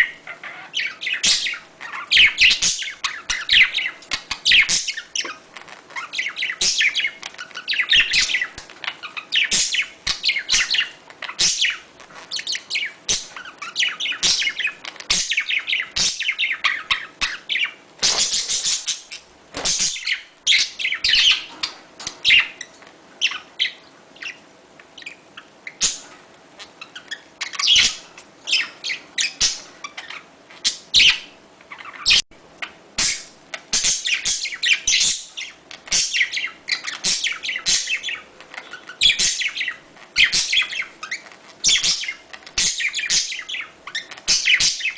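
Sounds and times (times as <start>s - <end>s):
budgerigars chattering: 0.0s - 5.4s, 6.0s - 24.4s, 25.0s - 44.9s.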